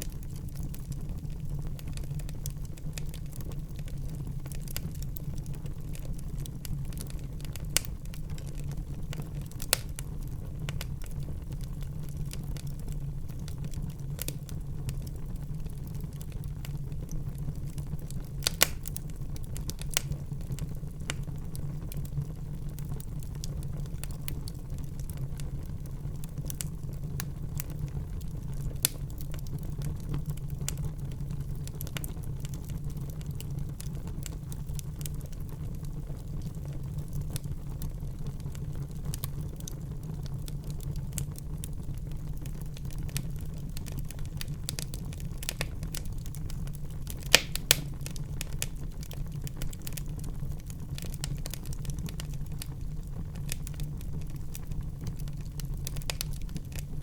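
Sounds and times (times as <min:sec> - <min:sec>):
fire rumbling: 0:00.0 - 0:57.0
wood fire crackling and popping: 0:00.0 - 0:57.0.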